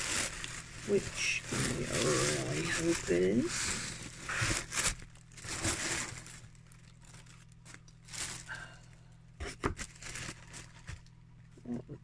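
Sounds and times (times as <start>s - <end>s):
paper rustling and crinkling: 0.0s - 8.8s, 9.4s - 11.1s
faint low hum: 0.0s - 12.0s.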